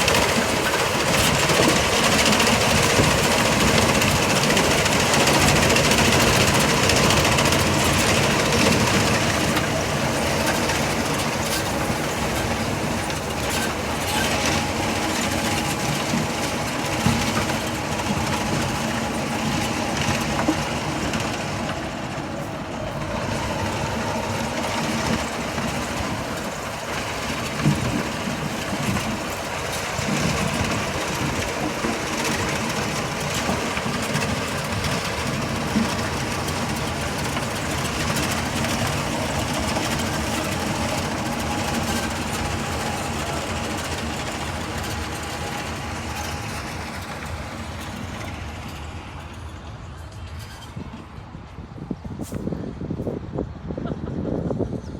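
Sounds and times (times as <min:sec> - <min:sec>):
tractor engine drone: 0:00.0 - 0:54.9.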